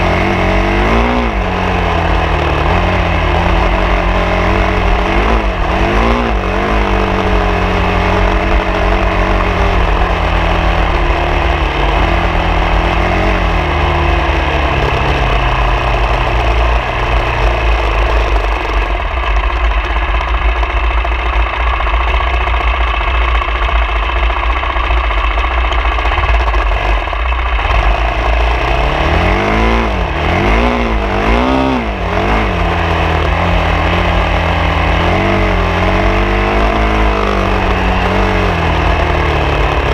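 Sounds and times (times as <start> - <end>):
constant low rumble: 0.0 - 39.9
vehicle engine revving: 0.0 - 39.9.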